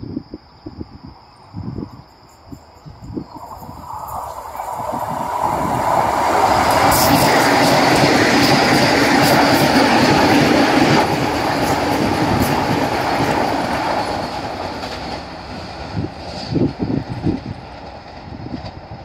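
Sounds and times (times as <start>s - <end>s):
train passing at speed: 1.7s - 19.0s.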